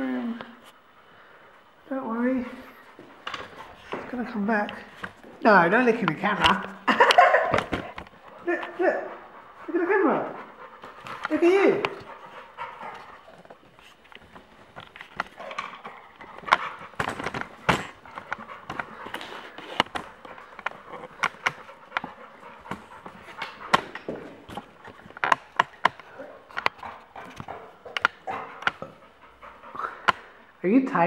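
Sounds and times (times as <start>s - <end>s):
dog claws clicking on floor: 3.0s - 8.8s, 10.4s - 30.4s.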